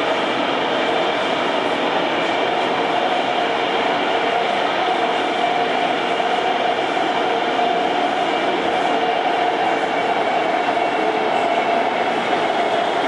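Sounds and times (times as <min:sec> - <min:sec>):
train rail running noise: 0:00.0 - 0:13.0.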